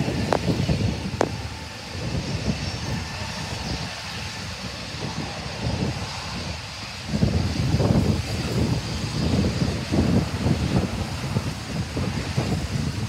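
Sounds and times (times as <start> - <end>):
distant jet engines humming: 0.0 - 13.0
wind on microphone: 0.0 - 13.0.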